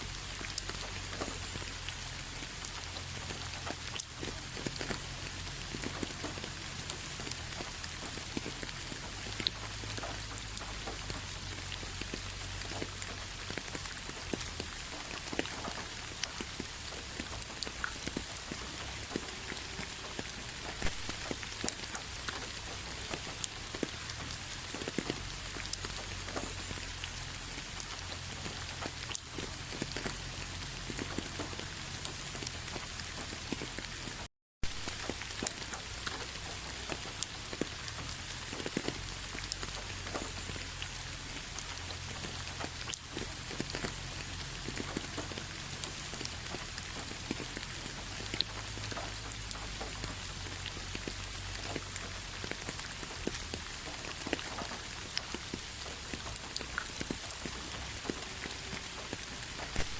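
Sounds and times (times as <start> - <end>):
raindrops ticking and splashing: 0.0 - 59.9
steady rain: 0.0 - 59.9.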